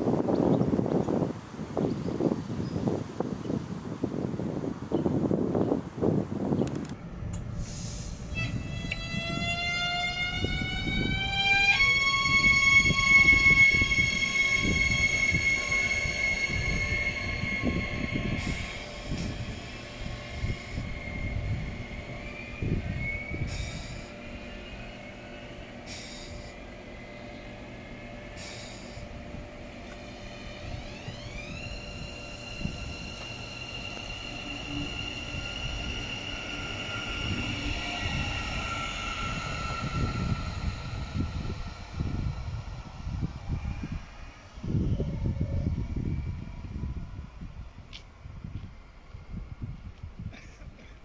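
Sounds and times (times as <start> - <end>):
wheels rumbling on rail: 0.0 - 51.0
electric train motor whine: 7.0 - 50.0.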